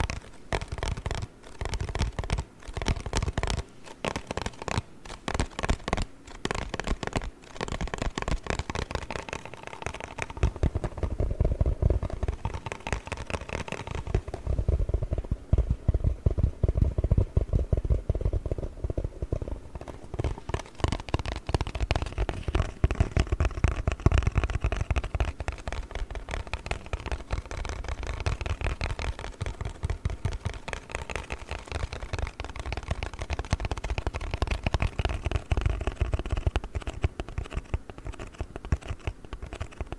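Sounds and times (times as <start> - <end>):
tapping and scratching on cardboard: 0.0 - 39.9.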